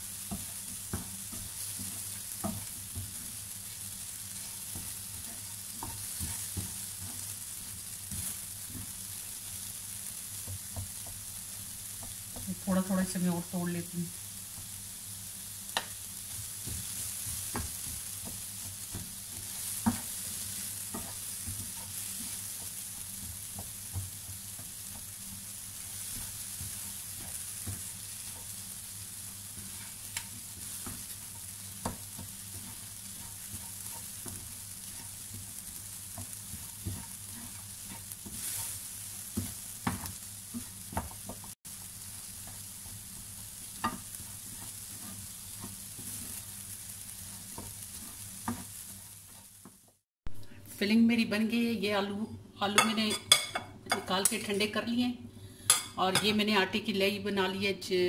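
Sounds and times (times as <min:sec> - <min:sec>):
potatoes sizzling in frying pan: 0:00.0 - 0:50.5
spatula tapping and scraping pan: 0:00.1 - 0:09.1, 0:10.3 - 0:12.6, 0:15.7 - 0:50.0, 0:52.7 - 0:54.5, 0:55.7 - 0:56.4.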